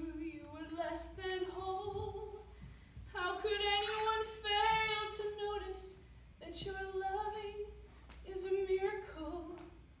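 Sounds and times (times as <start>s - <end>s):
woman singing unaccompanied: 0.0s - 2.5s, 3.1s - 9.8s.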